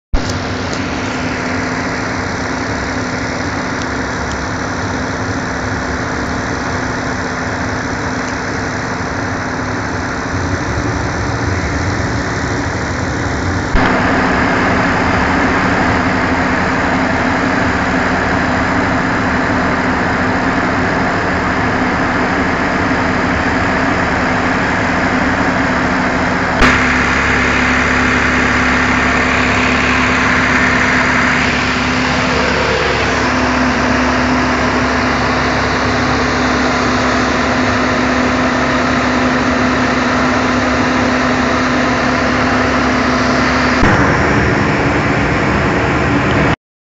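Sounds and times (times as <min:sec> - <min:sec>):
grain dryer running: 0:00.2 - 0:46.5.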